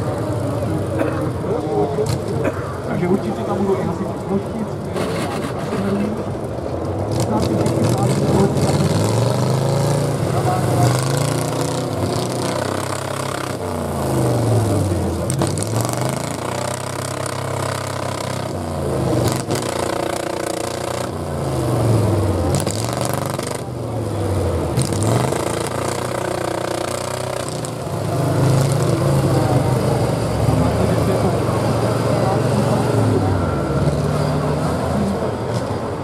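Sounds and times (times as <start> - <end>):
truck engine revving: 0.0 - 36.0.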